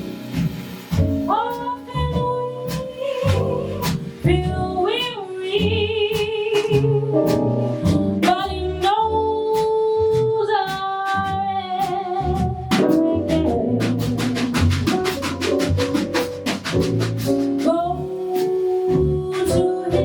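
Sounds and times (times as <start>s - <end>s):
slow jazz ballad: 0.0s - 20.0s.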